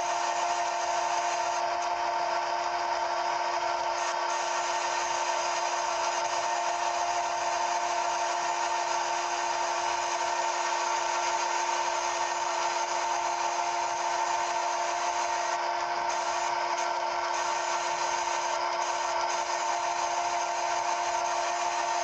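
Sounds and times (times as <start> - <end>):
machine motor whine: 0.0 - 22.0.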